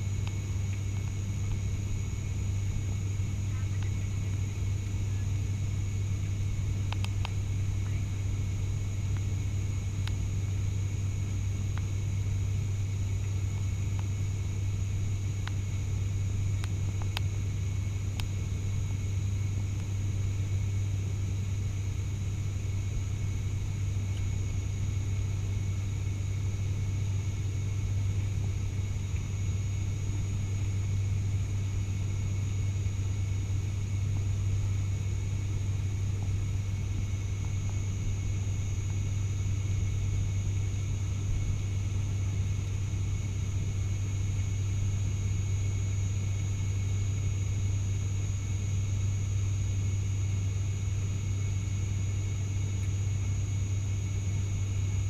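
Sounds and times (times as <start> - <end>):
faint high whine: 0.0 - 55.0
turboprop cabin drone: 0.0 - 55.0.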